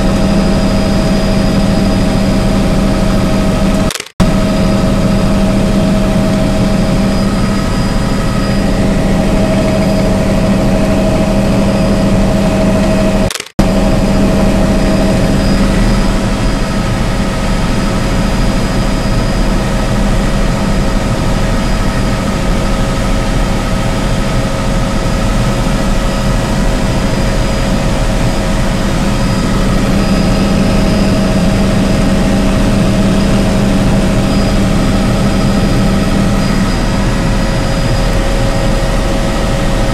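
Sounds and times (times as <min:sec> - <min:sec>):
helicopter engine and rotor drone: 0:00.0 - 0:39.9
high whine: 0:00.0 - 0:39.9.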